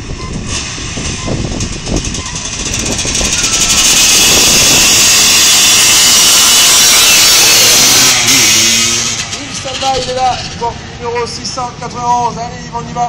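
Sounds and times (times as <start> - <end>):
motorcycle engine revving hard: 0.0 - 10.7.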